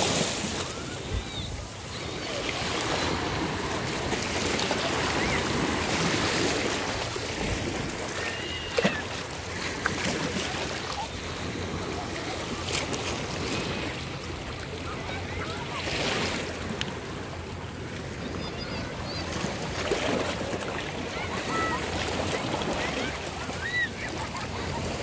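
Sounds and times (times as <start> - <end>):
waves lapping around rocks: 0.0 - 25.0.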